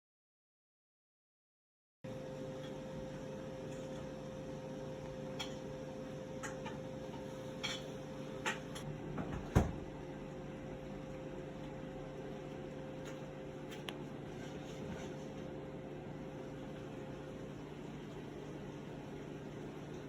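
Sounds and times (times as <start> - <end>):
electrical hum: 2.1 - 20.0.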